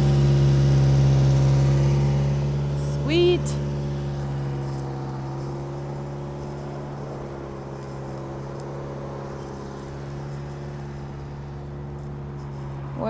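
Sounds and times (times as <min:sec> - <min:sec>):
small truck engine idling: 0:00.0 - 0:13.0.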